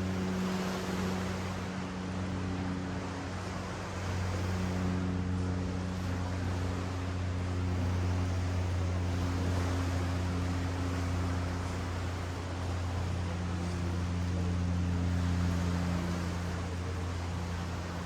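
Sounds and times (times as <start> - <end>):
low mechanical hum: 0.0 - 18.0
ocean surf washing over beach: 0.0 - 18.0.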